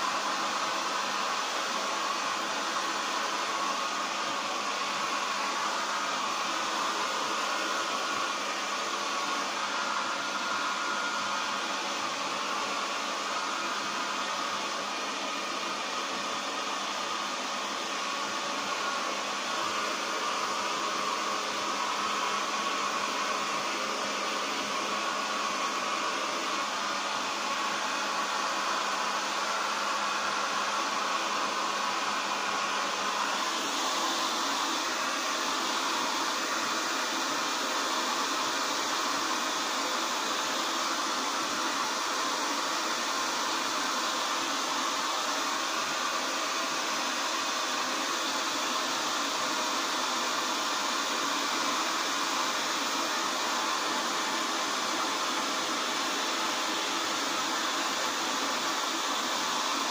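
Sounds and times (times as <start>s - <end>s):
hair dryer blowing air: 0.0s - 59.9s.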